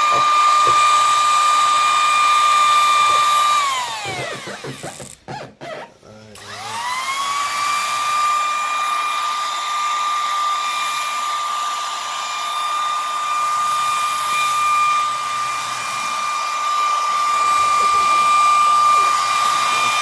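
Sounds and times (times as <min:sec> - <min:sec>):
hot-air blower whining: 0:00.0 - 0:05.2, 0:06.4 - 0:20.0.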